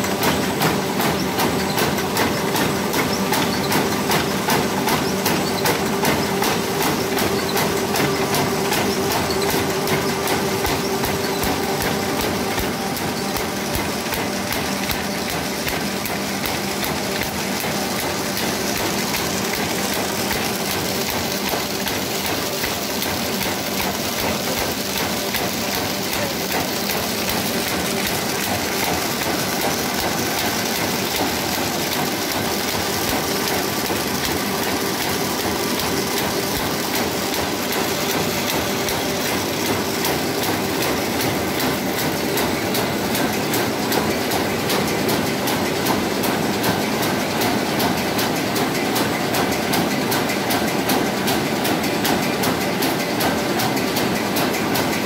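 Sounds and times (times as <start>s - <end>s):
paper bag machine clattering: 0.0s - 55.0s.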